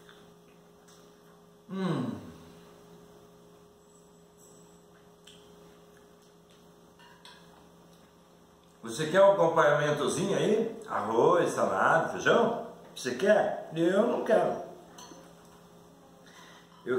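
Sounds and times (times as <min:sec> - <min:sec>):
electrical mains hum: 0:00.0 - 0:16.9.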